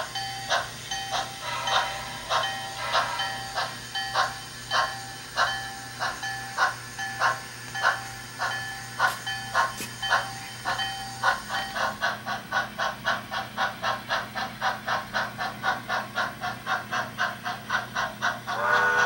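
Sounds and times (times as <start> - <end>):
model steam locomotive chuffing: 0.0 - 19.0.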